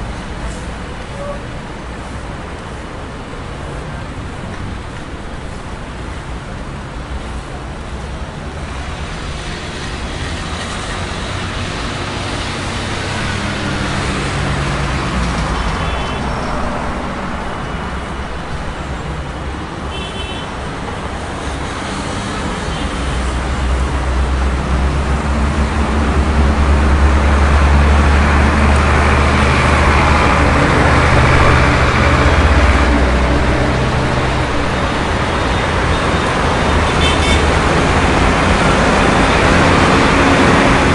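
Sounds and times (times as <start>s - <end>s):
passing cars and buses: 0.0s - 40.9s.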